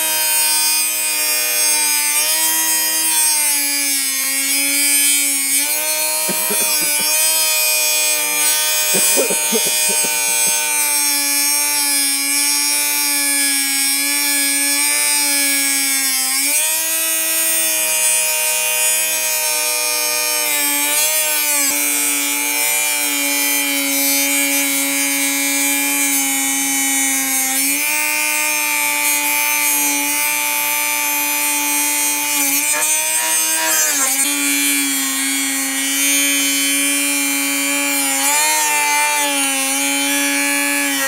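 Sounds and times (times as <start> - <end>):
rotary tool grinding metal: 0.0 - 41.0.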